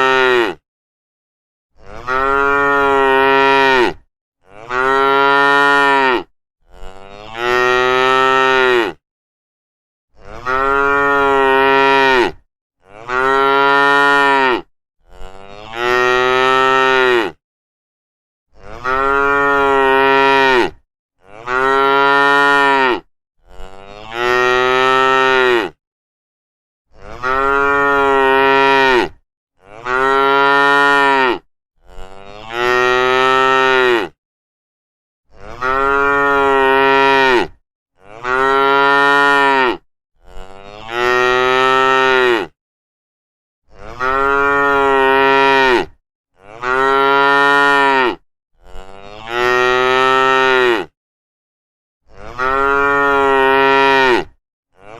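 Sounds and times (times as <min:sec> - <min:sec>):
cattle mooing: 0:01.8 - 0:09.0, 0:10.2 - 0:17.4, 0:18.6 - 0:25.8, 0:27.0 - 0:34.2, 0:35.4 - 0:42.6, 0:43.8 - 0:50.9, 0:52.2 - 0:54.9.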